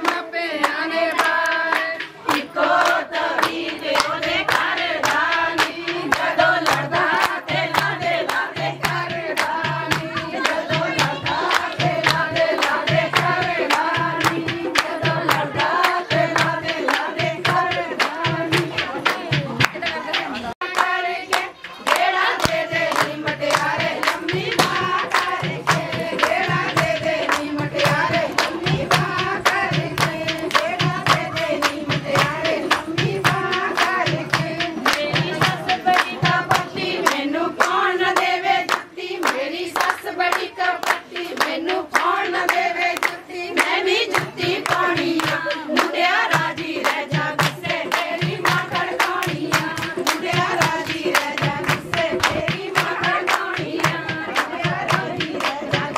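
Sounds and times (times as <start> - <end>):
group singing: 0.0 - 55.9
hand claps: 0.0 - 55.9.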